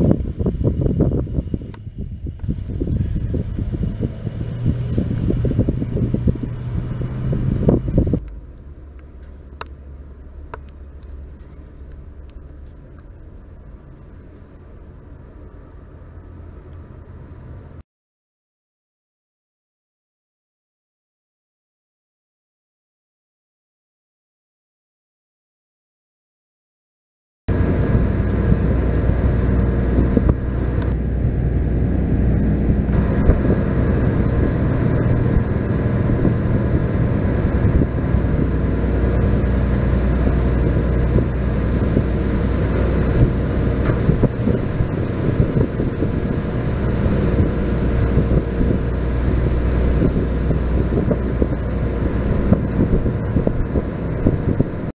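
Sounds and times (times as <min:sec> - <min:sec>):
ferry engine humming: 0:00.0 - 0:17.8, 0:27.5 - 0:54.9
wind buffeting microphone: 0:00.0 - 0:17.8, 0:27.5 - 0:54.9.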